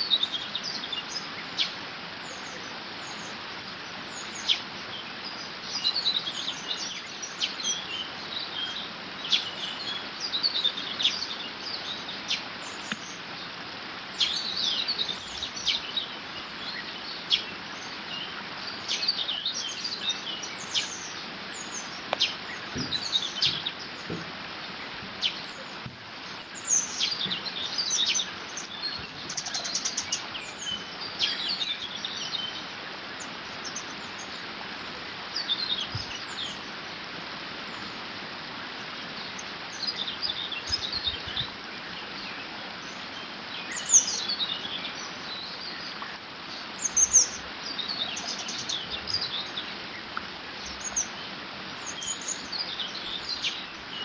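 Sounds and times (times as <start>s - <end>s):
small birds singing and chirping: 0.0s - 54.0s
water rushing: 0.0s - 54.0s.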